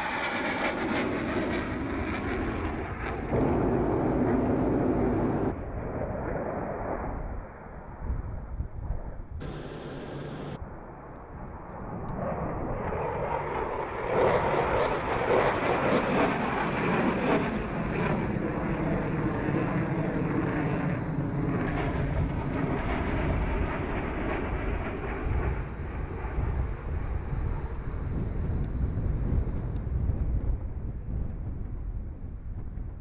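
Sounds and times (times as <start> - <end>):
jet engines roaring: 0.0 - 7.3, 9.4 - 30.7.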